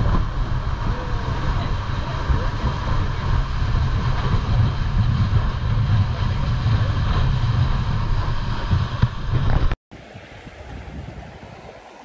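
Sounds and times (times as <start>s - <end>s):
motorboat running noise: 0.0s - 12.0s
wind rumbling on microphone: 0.0s - 12.0s.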